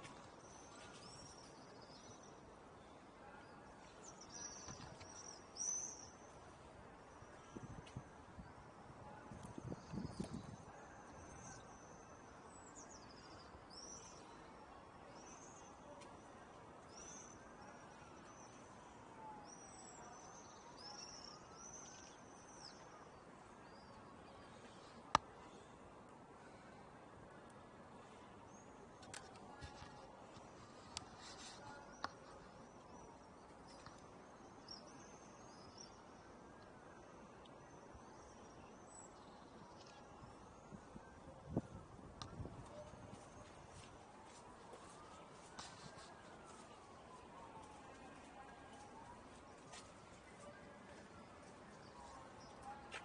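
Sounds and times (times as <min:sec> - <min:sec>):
faint outdoor hiss: 0:00.0 - 0:53.0.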